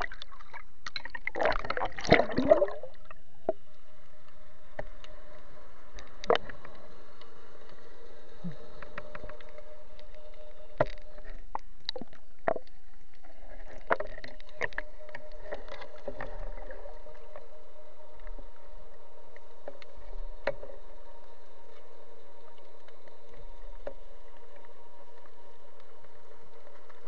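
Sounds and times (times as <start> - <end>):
muffled underwater hum: 0.0 - 27.0.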